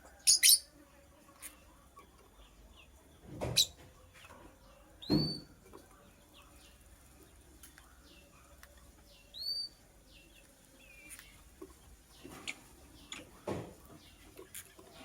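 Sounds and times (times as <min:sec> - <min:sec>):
lovebird chirping: 0:00.0 - 0:00.7, 0:01.4 - 0:05.6, 0:06.2 - 0:15.0.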